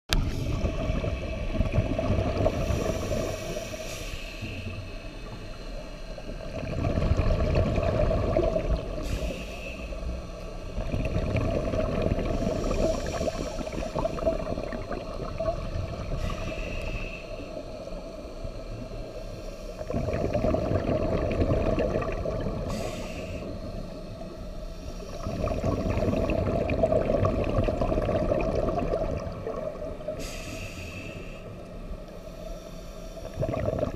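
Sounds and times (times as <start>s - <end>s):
underwater bubbles gurgling: 0.1s - 32.4s, 33.1s - 33.9s.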